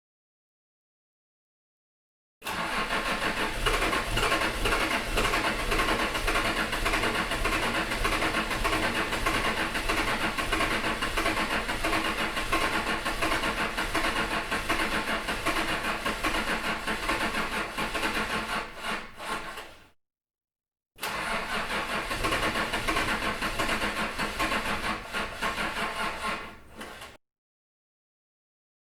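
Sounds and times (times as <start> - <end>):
car engine cranking on starter: 2.4 - 19.7, 21.0 - 27.2.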